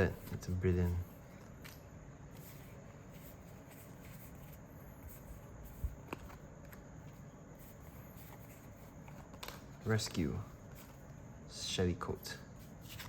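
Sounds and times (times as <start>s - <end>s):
trading cards being handled: 0.0s - 13.0s.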